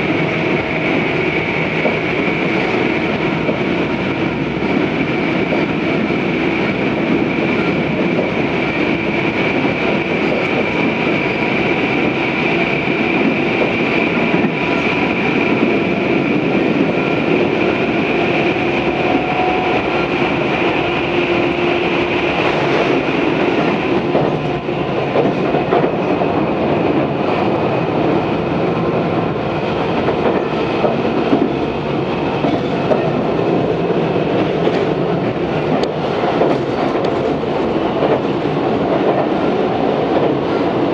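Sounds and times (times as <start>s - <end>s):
high steady train whine: 0.0s - 40.9s
train wheels rumbling on rail: 0.0s - 40.9s
rail joint clicks: 0.1s - 27.5s, 29.2s - 40.9s.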